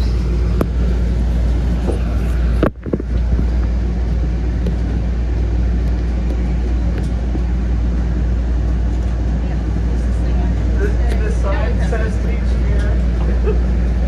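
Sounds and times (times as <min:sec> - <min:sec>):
low hum of train equipment: 0:00.0 - 0:14.0.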